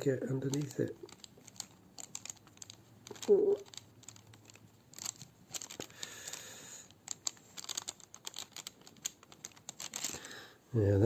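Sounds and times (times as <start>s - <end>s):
tweezers clicking and scratching: 0.0s - 10.2s.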